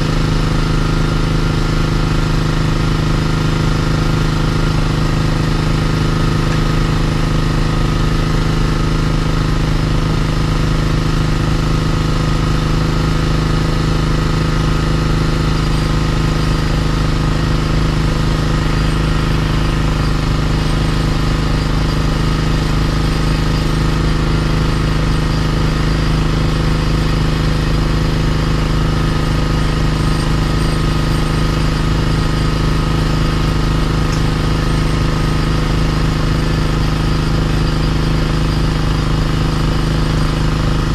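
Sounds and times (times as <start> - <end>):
small engine running steadily: 0.0 - 40.9.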